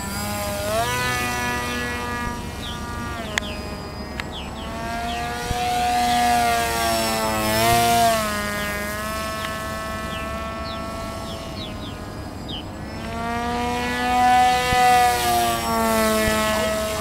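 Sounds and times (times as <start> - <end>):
model plane motor and propeller whining: 0.0 - 17.0.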